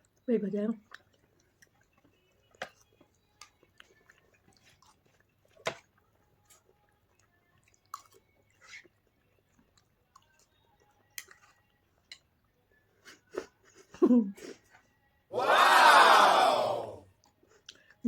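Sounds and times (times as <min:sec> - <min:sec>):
people chewing food: 0:00.0 - 0:18.0.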